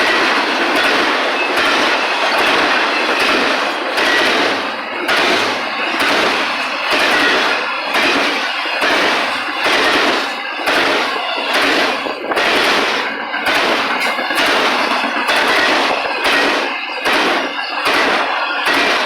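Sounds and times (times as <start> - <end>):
freight train wheels clattering: 0.0 - 19.0.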